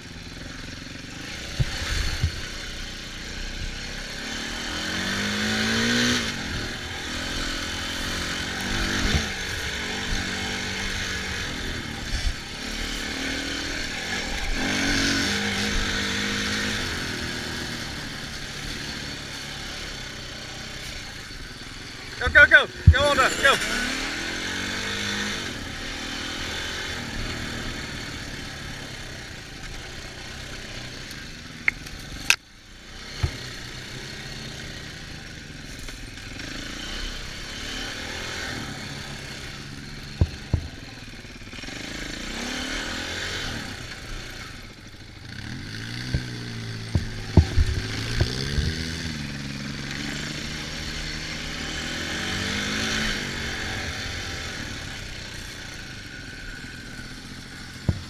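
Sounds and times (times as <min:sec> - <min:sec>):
off-road engine revving: 0:00.0 - 0:58.0.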